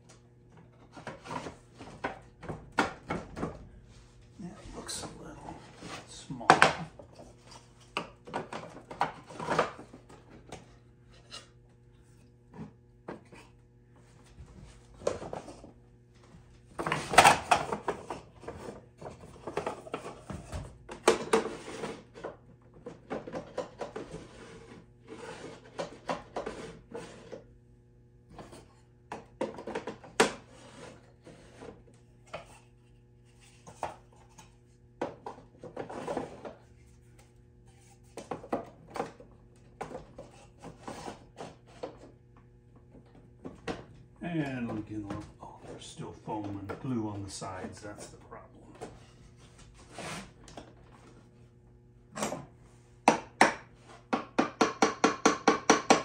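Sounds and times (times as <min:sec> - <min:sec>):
steady low hum: 0:00.1 - 0:22.5, 0:23.1 - 0:53.1.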